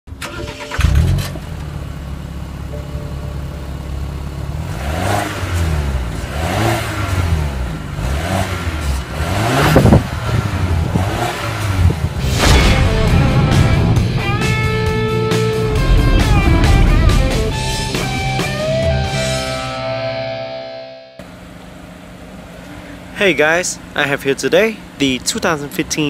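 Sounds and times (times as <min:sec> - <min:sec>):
car engine idling and revving: 0:00.1 - 0:19.7, 0:21.2 - 0:26.0.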